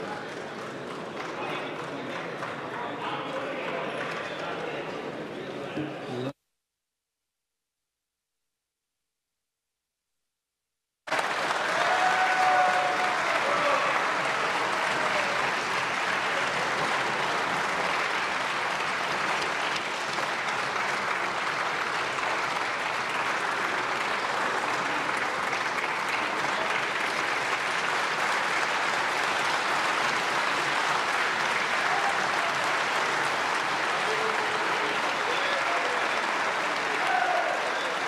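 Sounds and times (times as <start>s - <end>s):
crowd applause: 0.0s - 4.9s, 11.1s - 38.0s.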